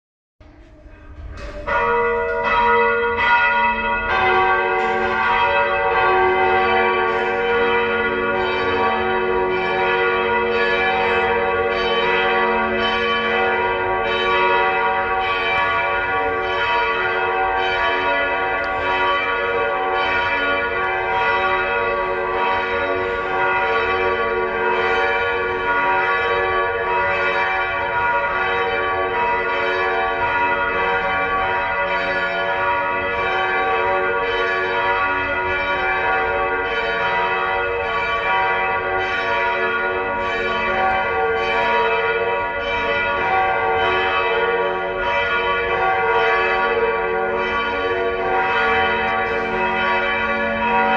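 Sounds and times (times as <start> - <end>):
church bells ringing: 0.4 - 50.9.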